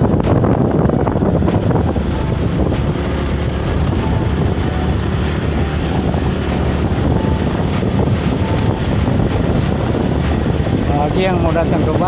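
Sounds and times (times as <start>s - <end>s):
motorcycle engine riding: 0.0s - 12.0s
road noise: 0.0s - 12.0s
wind rushing over microphone: 0.0s - 12.0s.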